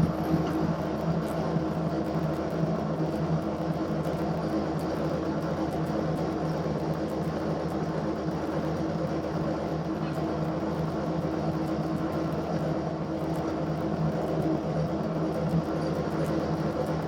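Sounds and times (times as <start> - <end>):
machine hum and whir: 0.0 - 17.0.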